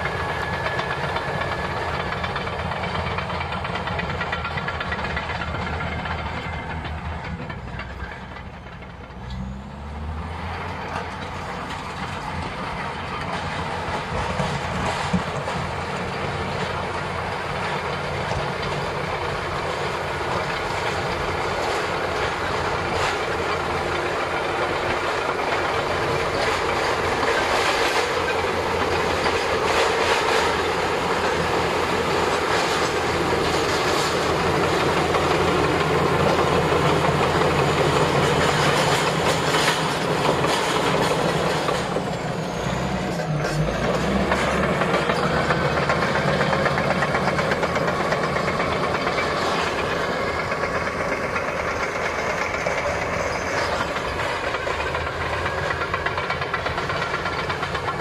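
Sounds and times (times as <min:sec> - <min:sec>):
diesel engine under load: 0:00.0 - 0:58.0
steel tracks clanking: 0:00.0 - 0:58.0.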